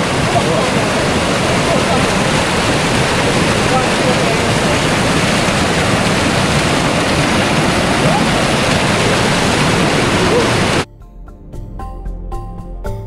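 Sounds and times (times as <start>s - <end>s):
river water rushing: 0.0s - 10.8s.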